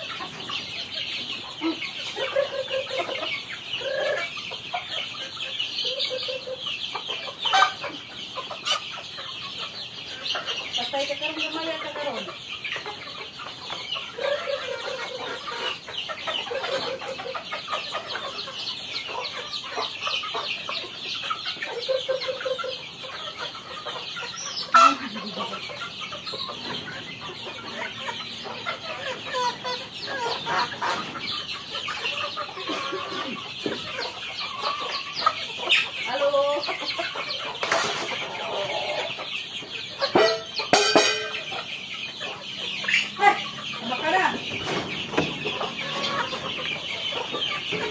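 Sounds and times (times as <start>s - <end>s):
chickens clucking: 0.0s - 47.9s
young chickens peeping: 0.0s - 47.9s.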